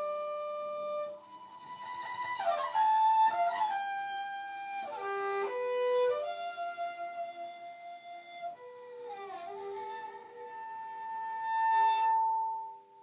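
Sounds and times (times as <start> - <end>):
violin playing slow melody: 0.0 - 13.0.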